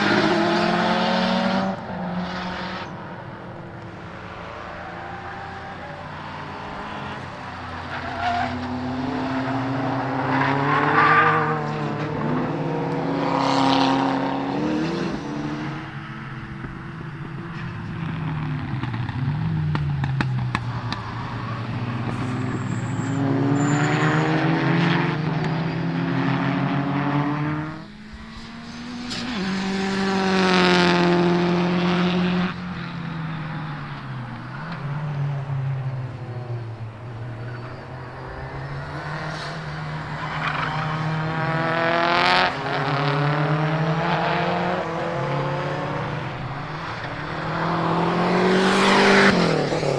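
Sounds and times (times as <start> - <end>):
turbocharged car engines revving: 0.0 - 49.9.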